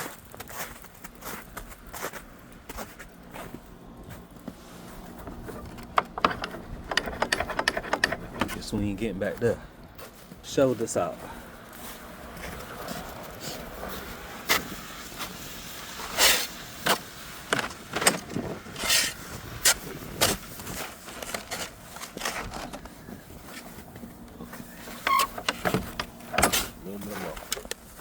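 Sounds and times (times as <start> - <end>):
footsteps crunching through snow: 0.0 - 5.8, 8.5 - 25.0, 26.1 - 28.0.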